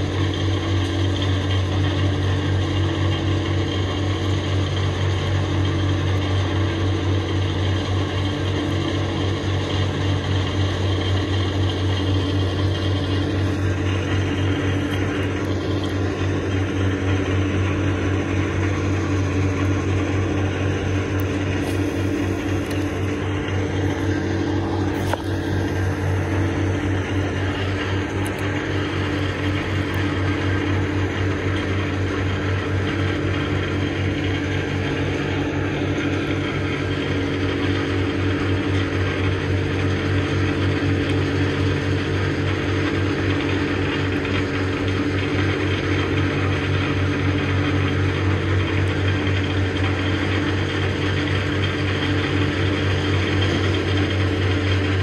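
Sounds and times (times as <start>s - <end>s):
heavy machinery humming: 0.0s - 55.0s.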